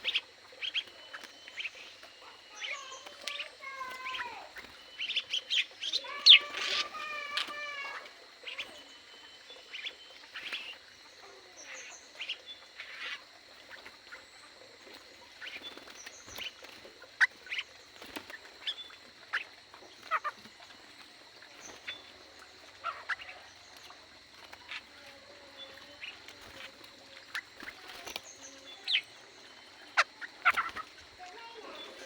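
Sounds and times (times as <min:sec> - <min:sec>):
birds chirping and calling: 0:00.0 - 0:32.0
faint steady high tone: 0:00.0 - 0:32.0.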